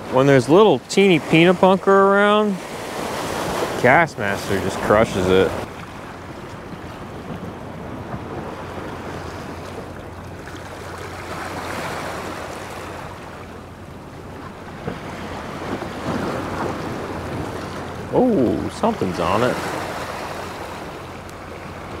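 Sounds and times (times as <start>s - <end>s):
waves lapping at shore: 0.0s - 22.0s
wind buffeting microphone: 2.6s - 22.0s.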